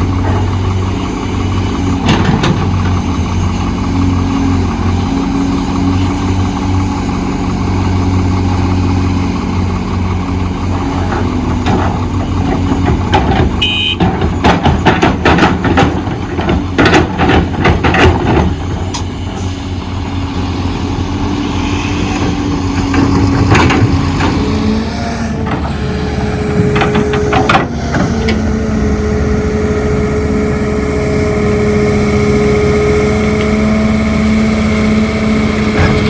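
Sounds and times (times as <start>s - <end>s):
excavator diesel engine whining: 0.0s - 36.0s.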